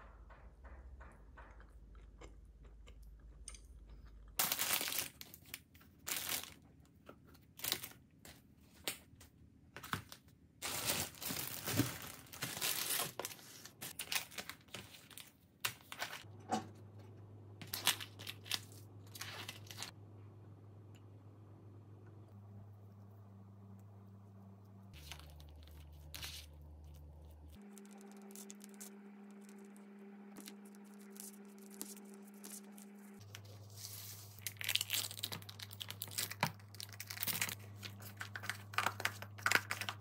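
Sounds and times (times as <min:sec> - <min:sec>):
crunching and crinkling: 0:01.9 - 0:08.9, 0:09.8 - 0:16.4, 0:17.6 - 0:19.9, 0:22.8 - 0:40.0.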